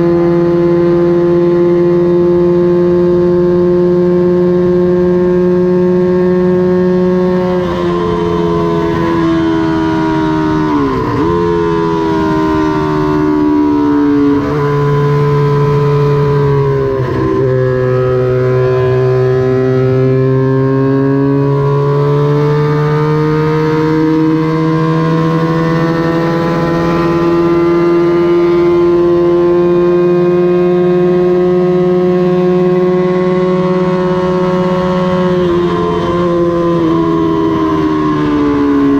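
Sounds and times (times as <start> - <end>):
racing motorcycle engine revving high: 0.0 - 38.9.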